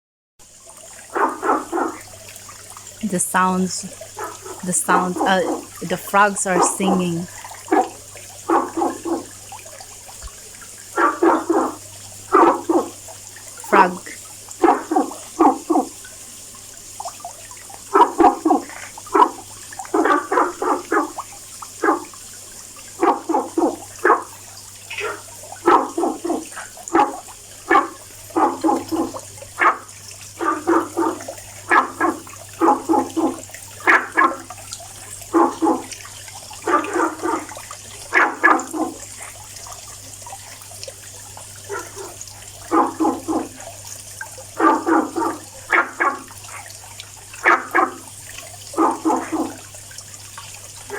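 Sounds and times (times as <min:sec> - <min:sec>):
frogs croaking: 0:00.6 - 0:39.7, 0:41.6 - 0:43.7, 0:44.5 - 0:46.7, 0:47.3 - 0:49.8.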